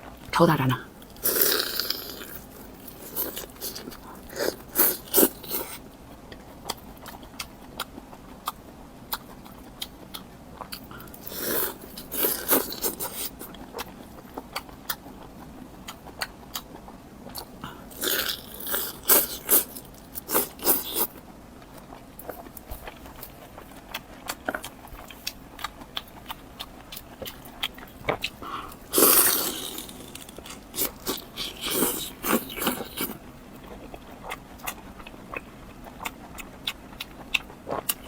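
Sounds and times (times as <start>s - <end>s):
person chewing crunchy food: 0.9s - 38.0s.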